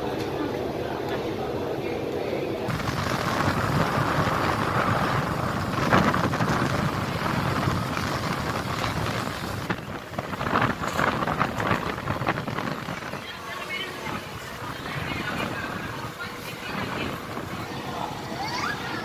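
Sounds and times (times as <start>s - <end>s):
dull ferry cabin noise: 0.0s - 19.0s
wind buffeting microphone: 2.7s - 18.4s
water rushing along hull: 2.7s - 19.0s.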